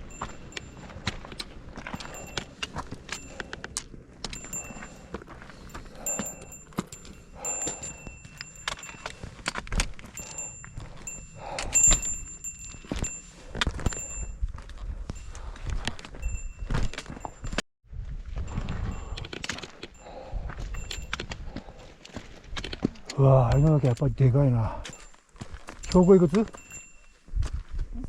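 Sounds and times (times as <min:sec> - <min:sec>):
metallic gear jingling: 0:00.0 - 0:14.4, 0:18.6 - 0:27.2
footsteps on rocky trail: 0:00.0 - 0:28.0.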